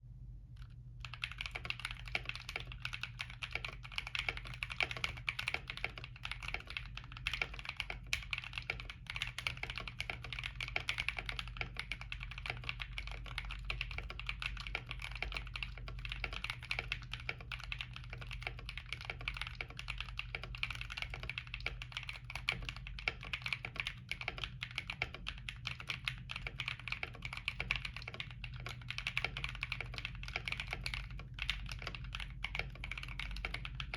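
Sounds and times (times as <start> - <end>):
steady low hum: 0.0 - 33.9
mechanical keyboard typing: 1.0 - 33.9.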